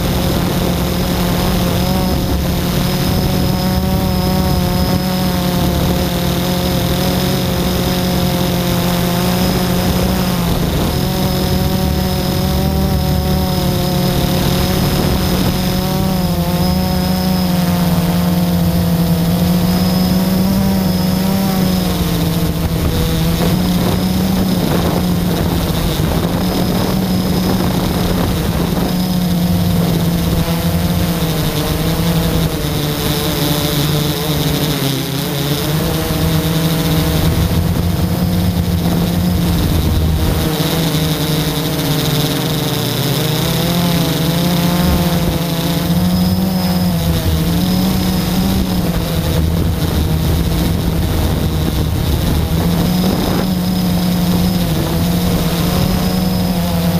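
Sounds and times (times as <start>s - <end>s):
quadcopter motors buzzing: 0.0s - 56.9s.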